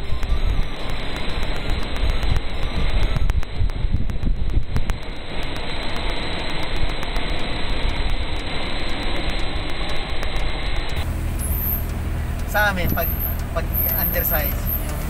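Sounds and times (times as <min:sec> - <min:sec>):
wind buffeting microphone: 0:00.0 - 0:13.8
vehicle road and wind noise: 0:00.0 - 0:15.0.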